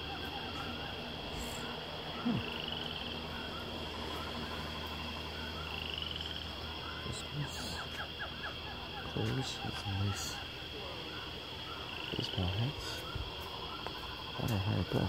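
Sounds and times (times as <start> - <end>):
frogs calling: 0.0 - 15.0
insects chirping: 0.0 - 15.0.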